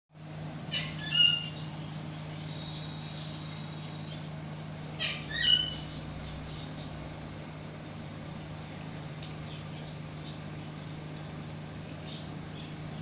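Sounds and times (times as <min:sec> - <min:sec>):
steady low hum: 0:00.1 - 0:13.0
bird chirps: 0:00.7 - 0:07.2, 0:08.8 - 0:13.0.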